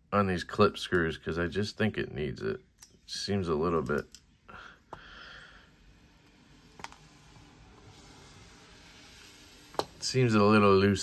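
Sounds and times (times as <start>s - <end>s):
room hiss: 0.1s - 11.0s.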